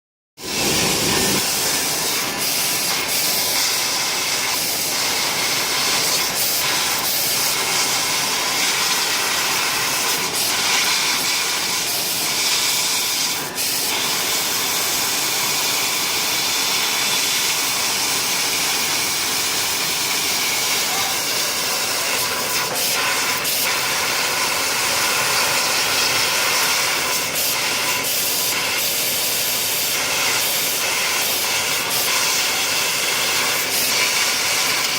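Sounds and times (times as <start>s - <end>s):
laser cutter hissing: 0.4s - 34.9s.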